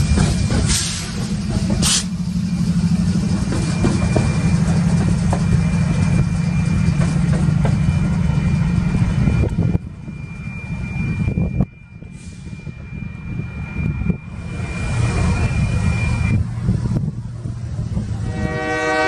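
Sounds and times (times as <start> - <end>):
locomotive engine drone: 0.0 - 19.0.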